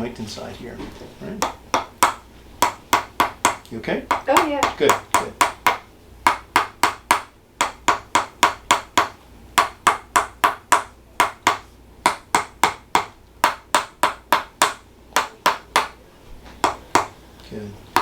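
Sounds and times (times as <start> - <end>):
rhythmic sharp tapping: 1.2 - 16.0, 16.6 - 17.2.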